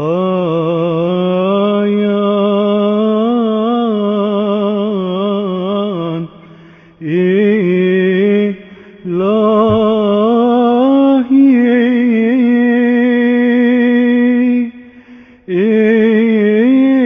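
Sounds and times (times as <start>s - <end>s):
solo voice chanting: 0.0s - 17.0s.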